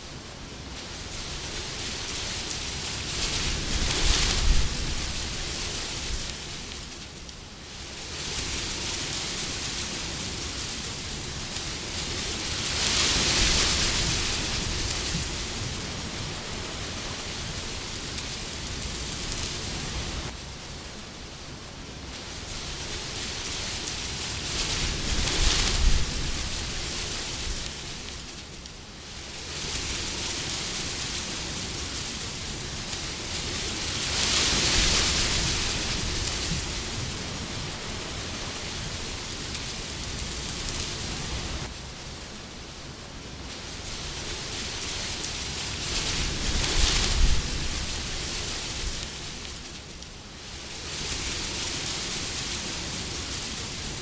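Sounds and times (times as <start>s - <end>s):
rushing wind: 0.0s - 54.0s.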